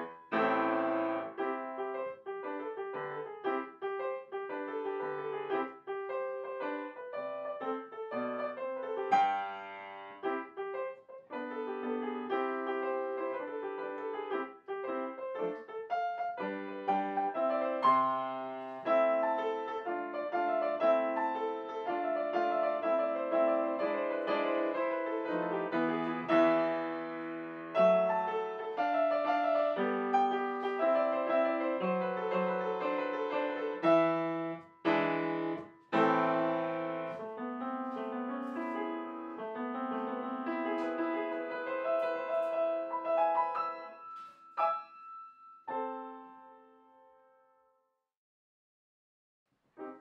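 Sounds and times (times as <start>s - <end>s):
piano music: 0.0s - 47.5s.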